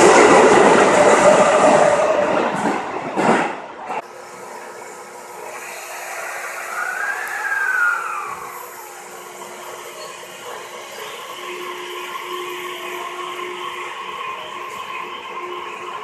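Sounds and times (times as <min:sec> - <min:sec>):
electric train hum: 0:00.0 - 0:16.0.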